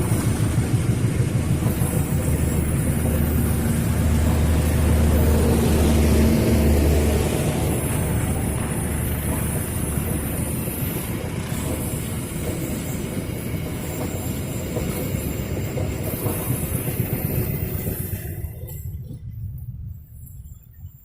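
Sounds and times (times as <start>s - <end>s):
train wheels clattering on rails: 0.0s - 20.6s
high wheel squeal: 1.4s - 18.9s.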